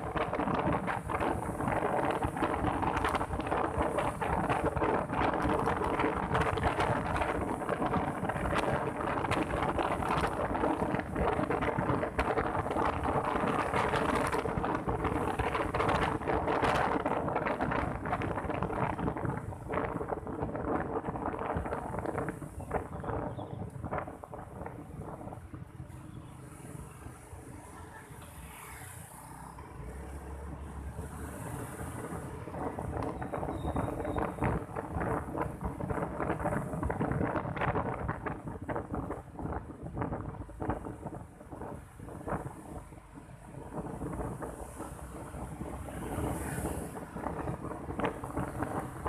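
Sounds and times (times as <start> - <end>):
wind buffeting microphone: 0.0 - 27.8, 29.1 - 49.0
motorbike engine rumble: 0.0 - 28.4, 29.9 - 42.8.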